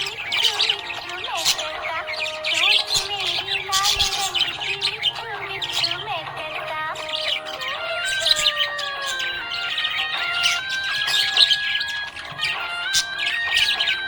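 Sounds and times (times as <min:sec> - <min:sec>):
budgerigars chirping and warbling: 0:00.0 - 0:14.0
low wavering melody: 0:00.0 - 0:14.0.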